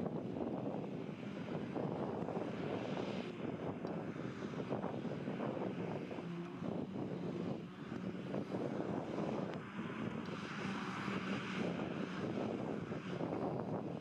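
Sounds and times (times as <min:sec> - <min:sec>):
forage harvester engine drone: 0:00.0 - 0:14.0.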